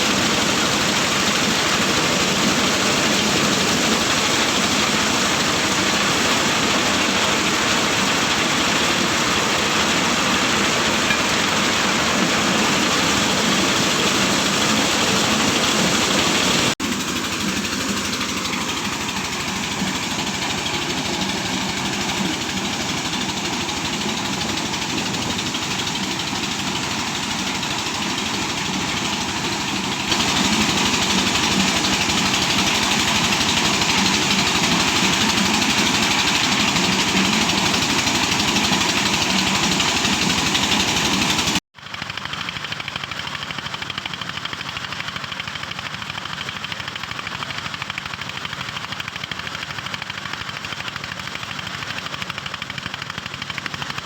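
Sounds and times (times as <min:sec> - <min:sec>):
corn sheller running: 0:00.0 - 0:54.0.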